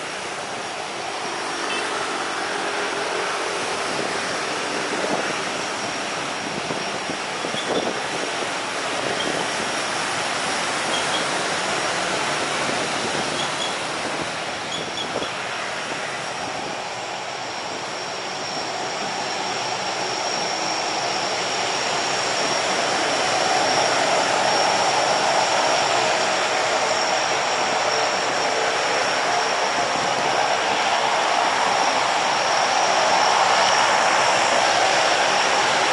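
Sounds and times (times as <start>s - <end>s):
propeller and engine rush: 0.0s - 35.9s
turboprop engines high whine: 0.0s - 35.9s.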